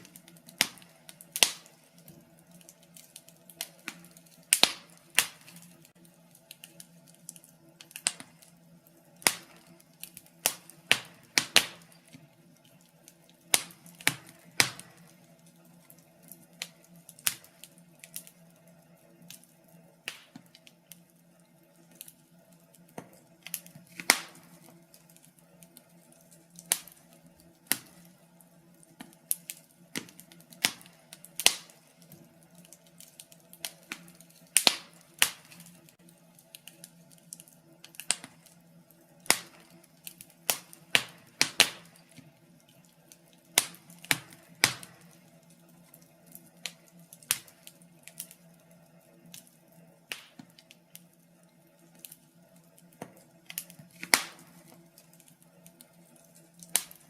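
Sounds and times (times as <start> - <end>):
faint steady hum: 0.0 - 57.0
wood fire crackling and popping: 0.0 - 57.0.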